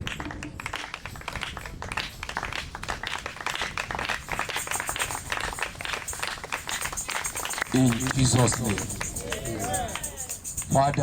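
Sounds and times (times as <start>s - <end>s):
congregation noise: 0.4s - 11.0s.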